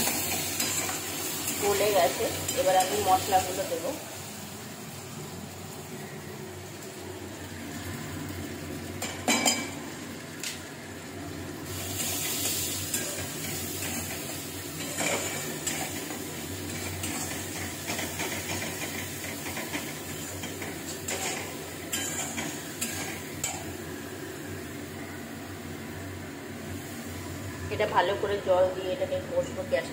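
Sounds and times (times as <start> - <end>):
food sizzling in wok: 0.0 - 29.9.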